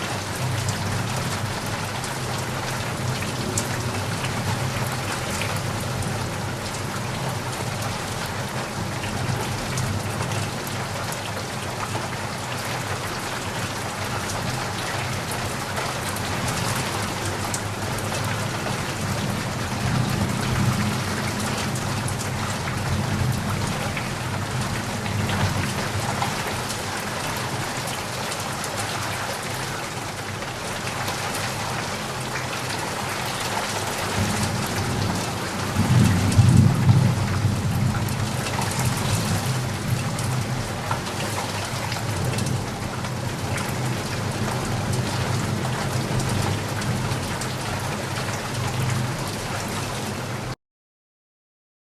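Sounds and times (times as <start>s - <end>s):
heavy rain: 0.0s - 50.6s.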